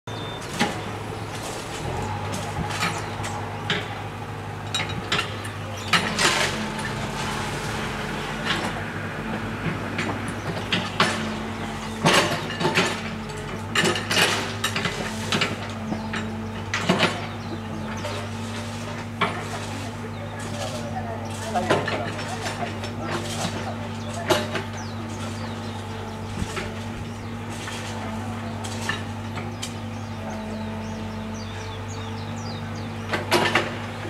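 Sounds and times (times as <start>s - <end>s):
low mechanical hum: 0.1s - 34.0s.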